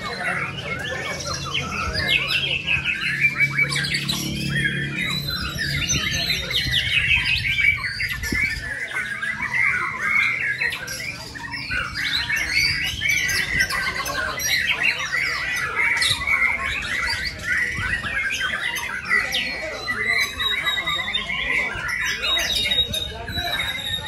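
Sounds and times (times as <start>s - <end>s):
songbirds singing in chorus: 0.0s - 24.0s.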